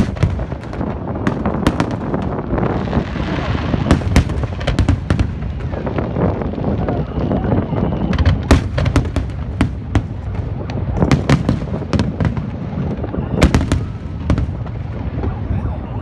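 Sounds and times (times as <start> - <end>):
fireworks bangs: 0.0 - 15.9.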